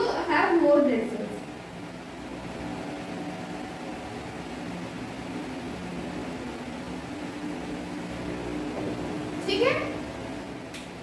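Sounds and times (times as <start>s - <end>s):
appliance hum with hiss: 0.0s - 11.0s.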